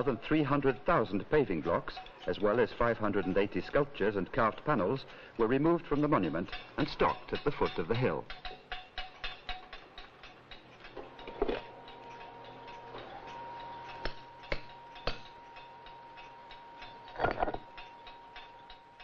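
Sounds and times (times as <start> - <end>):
rapid irregular ticking and tapping: 0.0 - 19.0.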